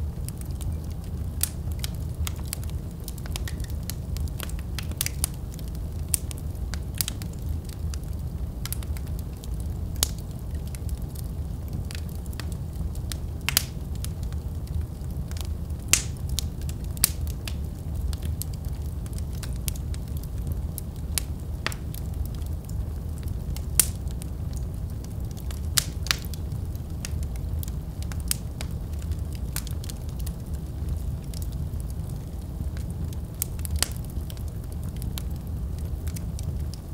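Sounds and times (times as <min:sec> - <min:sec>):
fire crackling and popping: 0:00.0 - 0:36.9.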